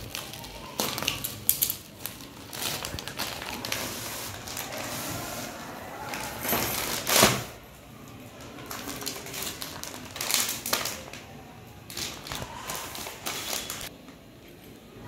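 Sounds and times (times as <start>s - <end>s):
plastic packets crinkling: 0.0s - 13.9s.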